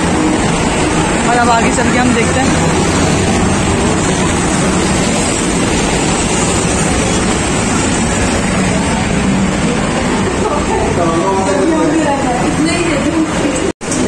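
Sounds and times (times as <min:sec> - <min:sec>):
loud rushing noise: 0:00.0 - 0:14.0.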